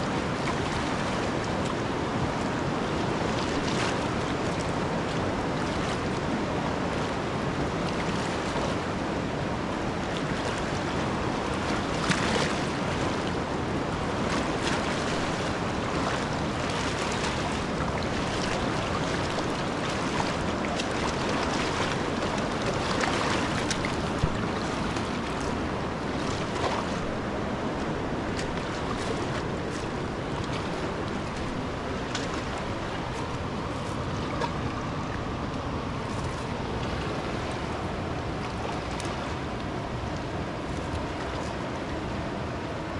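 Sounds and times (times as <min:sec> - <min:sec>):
rushing water: 0:00.0 - 0:42.9.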